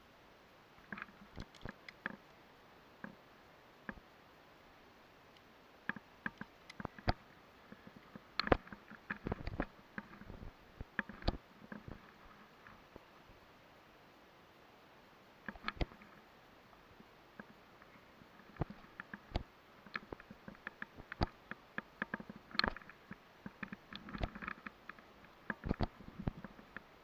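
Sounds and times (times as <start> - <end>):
faint steady hiss: 0.0 - 27.0.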